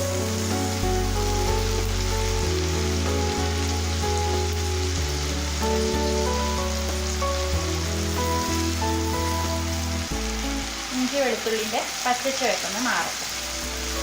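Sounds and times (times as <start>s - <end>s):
background music with held notes: 0.0s - 11.5s, 13.2s - 14.0s
paste sizzling in hot oil: 0.0s - 14.0s.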